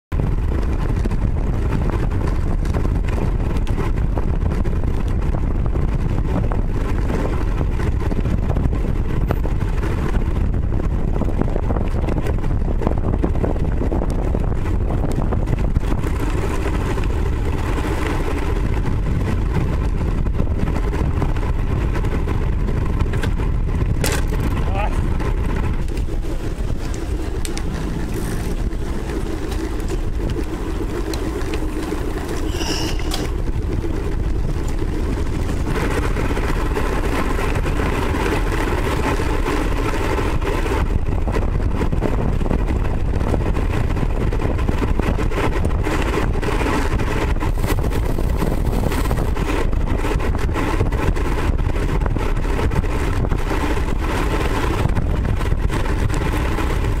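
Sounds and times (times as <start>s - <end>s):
wind buffeting microphone: 0.1s - 57.0s.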